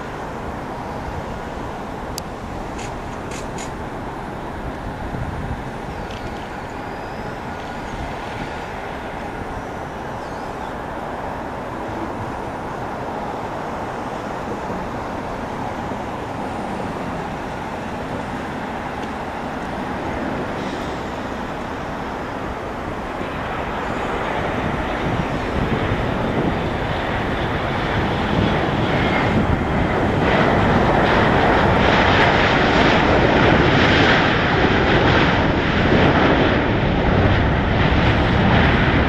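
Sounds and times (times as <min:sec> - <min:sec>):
jet engines roaring: 0:00.0 - 0:39.0.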